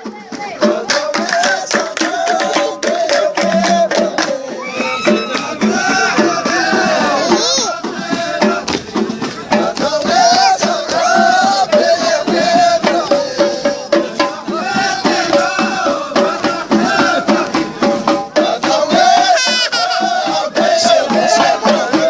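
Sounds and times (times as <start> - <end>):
fast dense percussion: 0.0 - 22.0
folk singing: 0.0 - 22.0.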